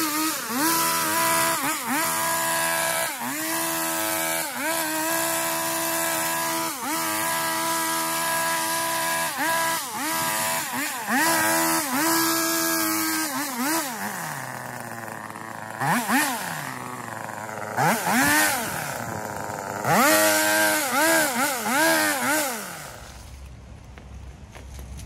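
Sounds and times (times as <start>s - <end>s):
garden power tool bogging under load: 0.0s - 23.3s.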